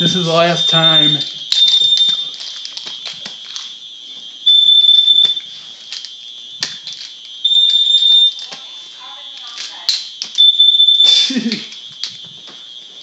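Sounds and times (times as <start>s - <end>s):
faint steady high alarm tone: 0.0s - 13.0s
smoke alarm long beeps: 0.0s - 13.0s.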